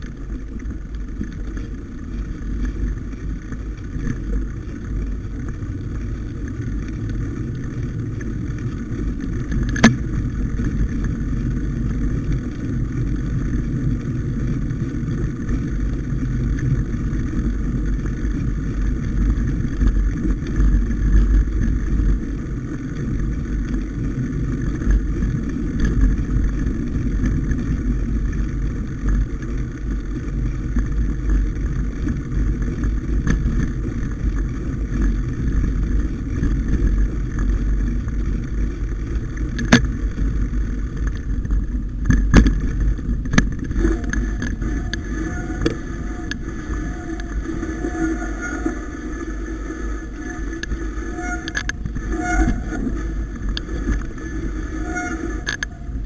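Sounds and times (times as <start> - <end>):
bicycle rolling over rough snow: 0.0 - 56.0
wind on microphone: 7.8 - 56.0.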